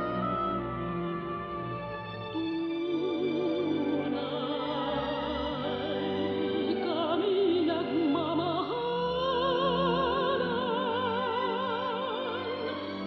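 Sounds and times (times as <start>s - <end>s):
full orchestra: 0.0s - 13.0s
operatic soprano singing: 0.0s - 13.0s.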